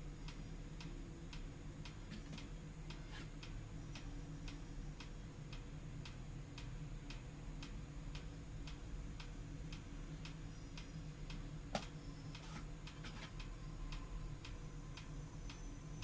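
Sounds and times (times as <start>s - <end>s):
low hum: 0.0s - 16.0s
steady ticking: 0.0s - 16.0s.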